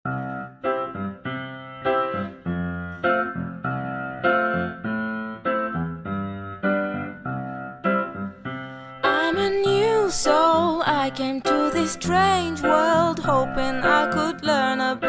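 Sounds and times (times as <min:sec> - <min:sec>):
piano chords ringing: 0:00.1 - 0:15.0.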